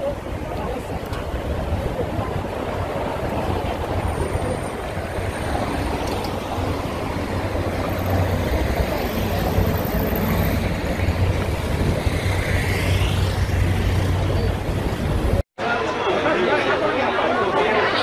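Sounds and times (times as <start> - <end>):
low traffic rumble: 0.0 - 18.0
cars passing: 0.1 - 15.4.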